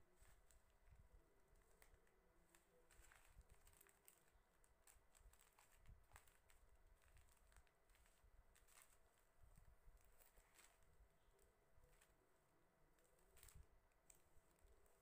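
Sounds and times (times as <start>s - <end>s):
plastic packets rustling: 0.1s - 0.8s, 1.5s - 11.0s, 11.8s - 12.2s, 13.0s - 15.0s.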